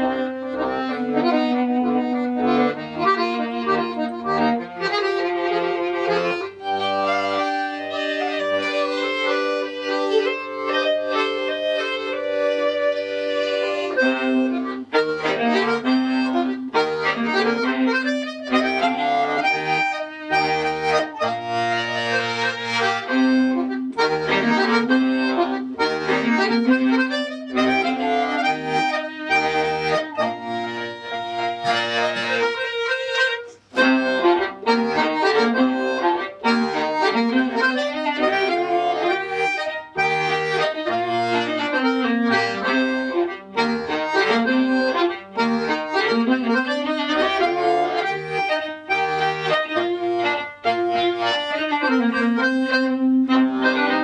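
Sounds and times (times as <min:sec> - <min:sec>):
accordion: 0:00.0 - 0:54.0
viola: 0:00.0 - 0:54.0.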